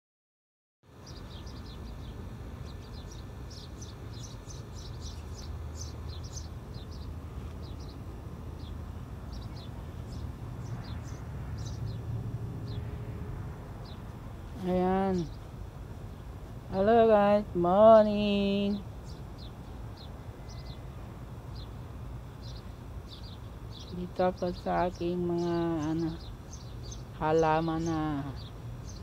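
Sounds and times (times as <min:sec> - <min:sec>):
small birds twittering: 0:00.9 - 0:13.0, 0:13.8 - 0:29.0.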